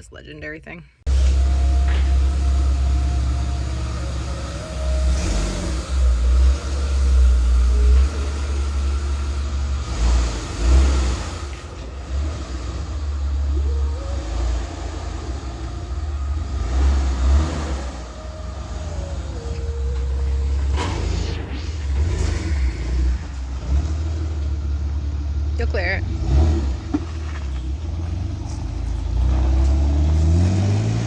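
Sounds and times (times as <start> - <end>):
engine deep uneven rumble: 1.0 - 31.0.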